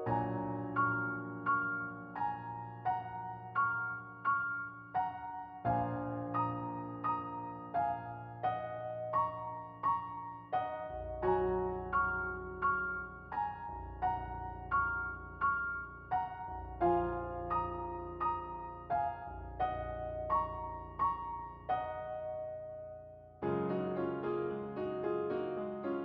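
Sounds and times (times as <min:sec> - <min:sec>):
soft slow piano music: 0:00.0 - 0:26.0.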